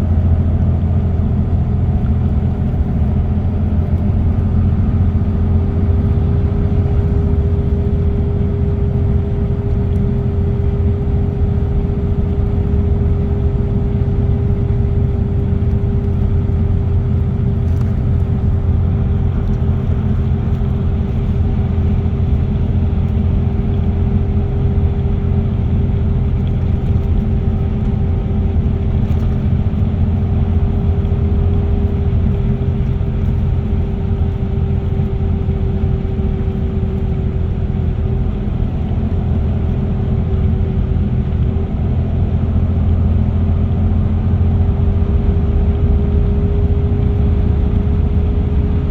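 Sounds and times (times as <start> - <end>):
car road and engine rumble: 0.0 - 48.9.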